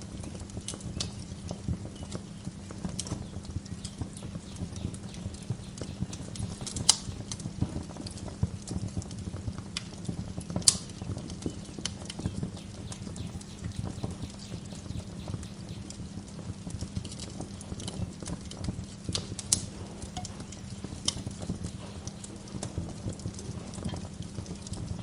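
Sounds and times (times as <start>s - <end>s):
wood fire crackling: 0.3s - 25.0s.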